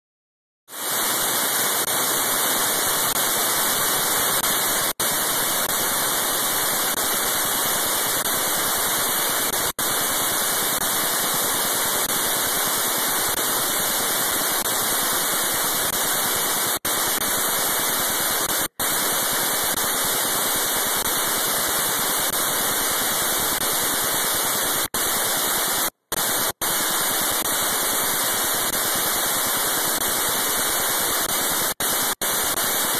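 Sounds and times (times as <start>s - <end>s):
static hiss: 0.7s - 32.9s.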